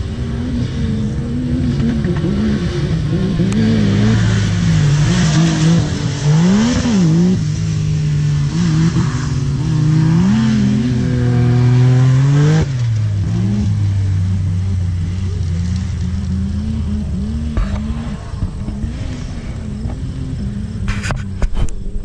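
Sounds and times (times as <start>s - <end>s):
racing engine revving hard: 0.0s - 20.6s
second engine revving unevenly: 0.0s - 22.0s.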